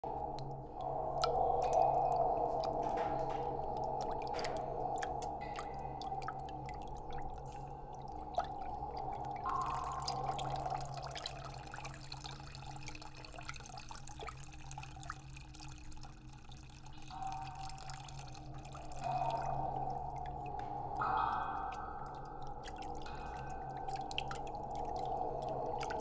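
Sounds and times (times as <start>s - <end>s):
low drone: 0.0s - 12.5s, 17.1s - 26.0s
water drips: 0.0s - 26.0s.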